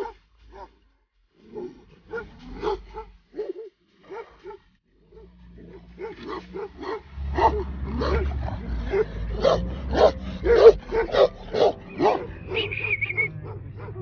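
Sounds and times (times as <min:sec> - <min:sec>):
dog barking: 0:00.0 - 0:00.8, 0:01.4 - 0:14.0.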